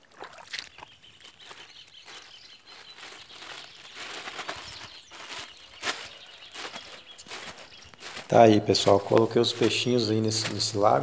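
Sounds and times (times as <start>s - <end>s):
soft crackles: 0.0s - 11.0s
splashing in shallow water: 0.0s - 11.0s.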